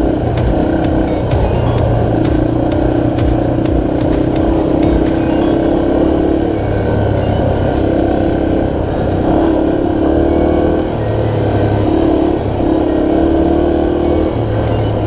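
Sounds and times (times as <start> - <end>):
dirt bike engine: 0.0 - 15.0.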